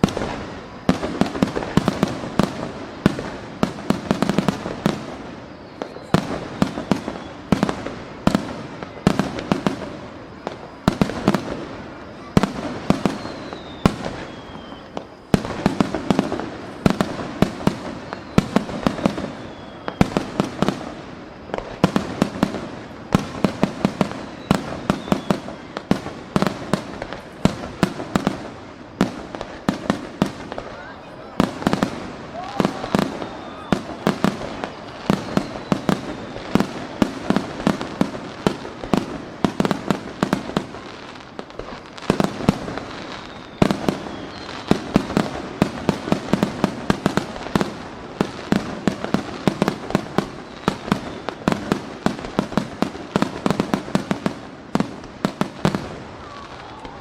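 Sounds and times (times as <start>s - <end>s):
falling firework whistles: 0.0s - 57.0s
fireworks booming: 0.0s - 57.0s.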